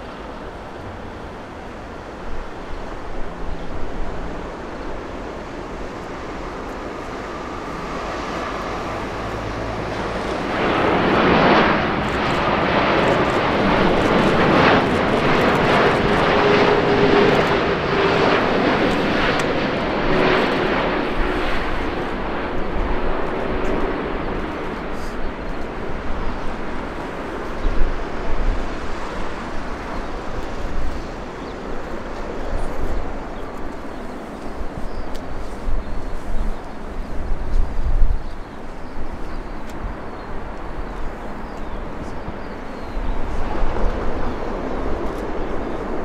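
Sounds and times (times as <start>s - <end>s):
jet engines rumbling past: 0.0s - 46.0s.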